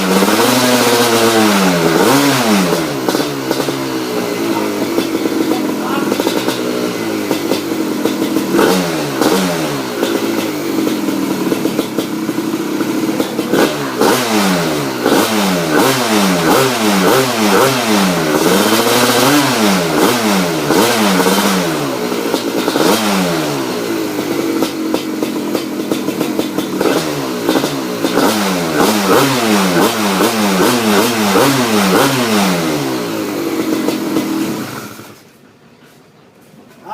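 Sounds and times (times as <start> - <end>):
two-stroke engine revving: 0.0 - 35.4.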